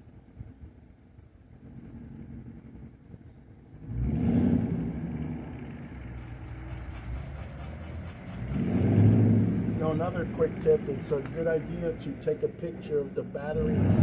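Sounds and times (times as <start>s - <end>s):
passing road vehicle rumble: 0.0s - 14.0s.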